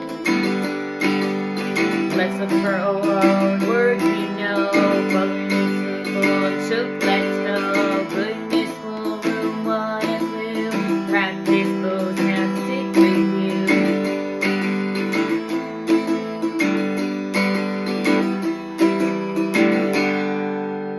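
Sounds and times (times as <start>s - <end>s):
acoustic guitar strumming: 0.0s - 20.9s.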